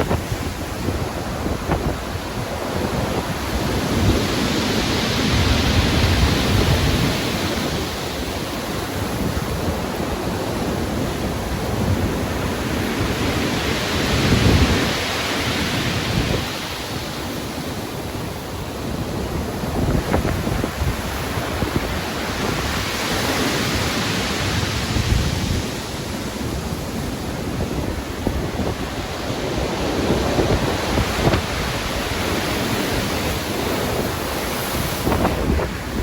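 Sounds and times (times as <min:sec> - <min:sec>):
low rumble of the sea: 0:00.0 - 0:36.0
waves breaking and washing in: 0:00.0 - 0:36.0.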